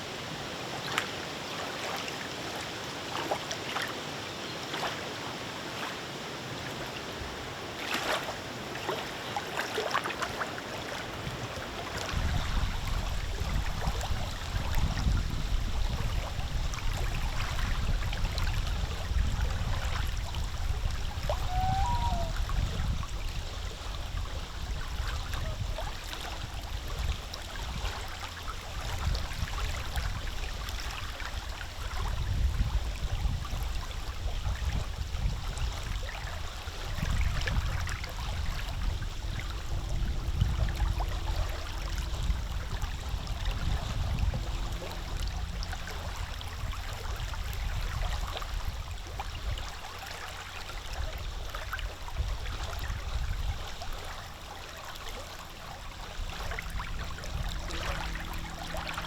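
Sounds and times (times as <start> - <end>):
waves lapping at shore: 0.0 - 59.0
wind rumble on microphone: 10.2 - 59.0.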